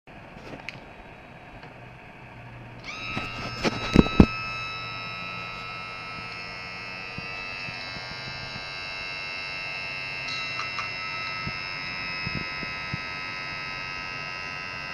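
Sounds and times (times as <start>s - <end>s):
electric motor and pump whining: 0.1s - 14.9s.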